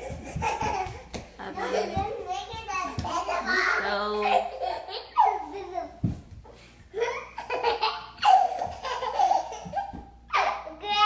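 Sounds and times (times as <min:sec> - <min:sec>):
children laughing: 0:00.0 - 0:06.0, 0:06.9 - 0:10.6.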